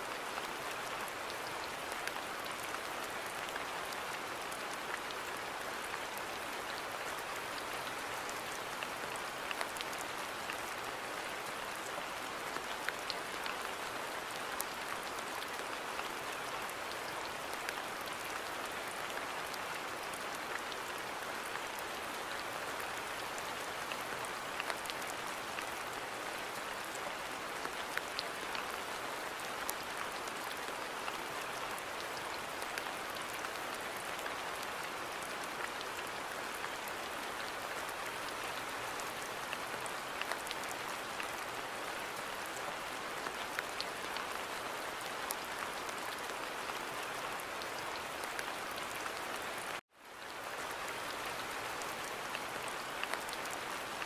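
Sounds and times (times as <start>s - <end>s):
steady rain hiss: 0.0s - 54.0s
raindrops ticking on surfaces: 0.1s - 54.0s.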